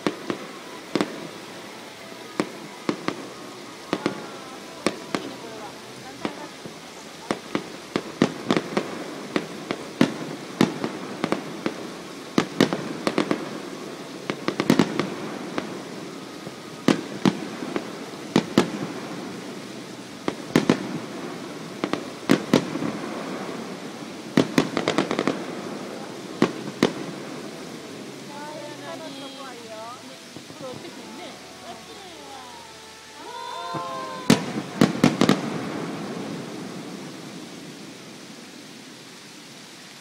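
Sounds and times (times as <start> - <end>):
fireworks bursting with echoes: 0.0 - 40.0.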